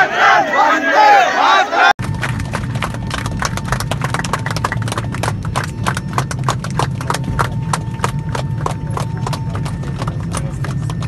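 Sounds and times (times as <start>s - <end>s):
airliner cabin drone: 2.0s - 11.0s
people applauding: 2.0s - 11.0s.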